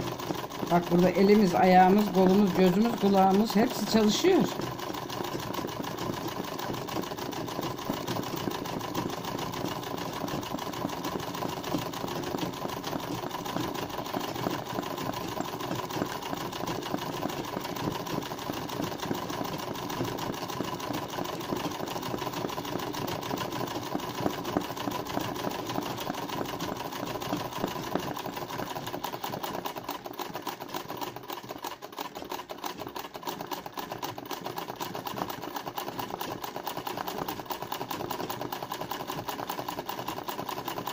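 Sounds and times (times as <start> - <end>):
sewing machine stitching: 0.0 - 40.9.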